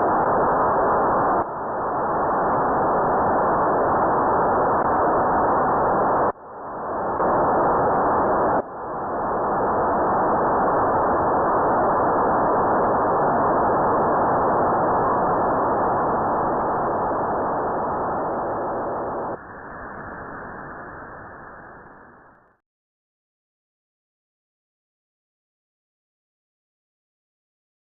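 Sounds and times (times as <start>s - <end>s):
radio receiver static hiss: 0.0s - 22.6s.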